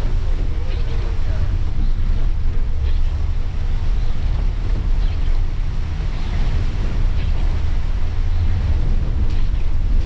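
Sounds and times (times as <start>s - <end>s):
engine rumble: 0.0s - 10.0s
windscreen wipers swishing: 0.0s - 10.0s.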